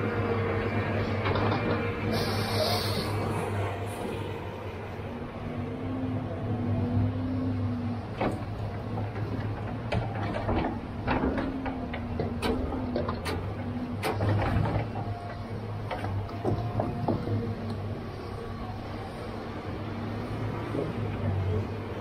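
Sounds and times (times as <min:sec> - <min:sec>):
diesel engine hum: 0:00.0 - 0:22.0.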